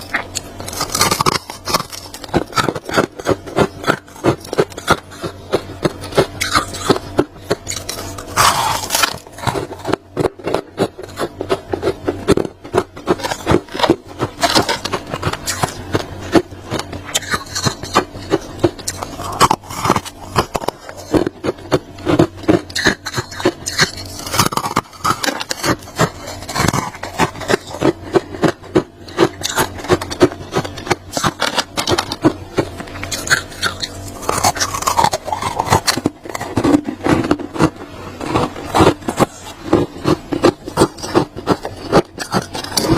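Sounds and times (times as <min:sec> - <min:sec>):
frost being scraped crunching: 0:00.0 - 0:42.9.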